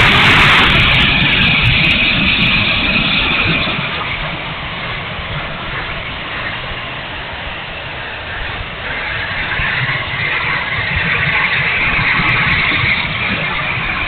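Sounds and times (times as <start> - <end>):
airflow noise: 0.0 - 14.0
electric ducted fan rushing: 0.0 - 14.0.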